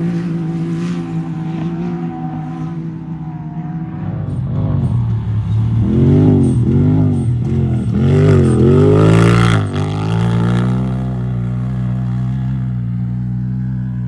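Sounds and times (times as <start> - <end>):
race vehicle engine revving: 0.0 - 13.2.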